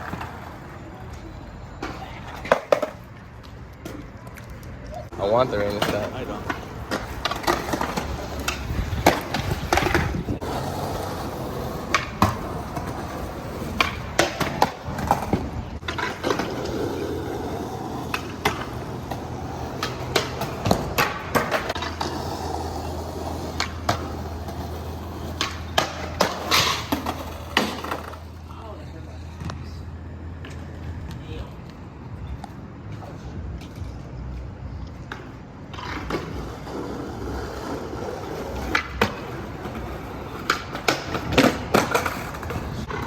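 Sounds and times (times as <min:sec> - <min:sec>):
skateboards clacking on ground: 0:00.0 - 0:43.0
skateboards rolling: 0:00.0 - 0:43.0.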